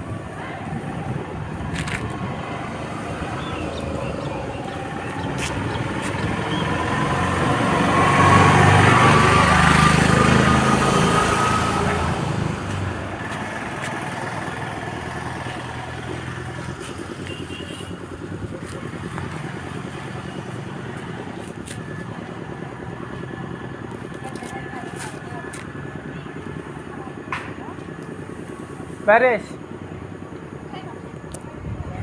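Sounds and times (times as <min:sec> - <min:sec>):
vehicle passing close by: 0:00.0 - 0:26.7
road traffic noise: 0:00.0 - 0:32.0.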